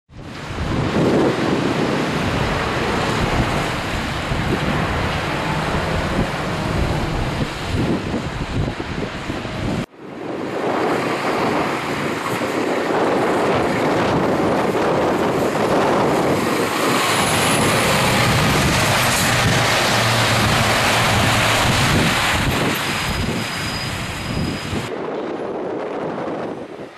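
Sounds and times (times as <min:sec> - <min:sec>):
truck engine and road noise: 0:00.1 - 0:26.9.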